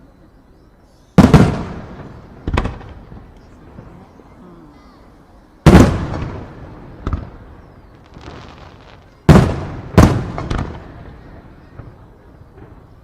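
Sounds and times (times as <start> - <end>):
fireworks booming with echo: 1.2 - 4.3, 5.5 - 13.0.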